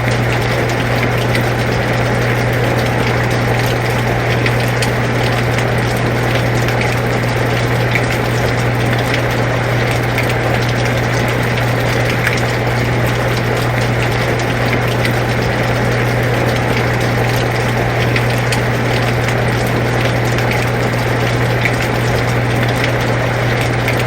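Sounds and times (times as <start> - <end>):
air conditioner humming: 0.0 - 24.0
rain drops ticking: 0.0 - 24.0.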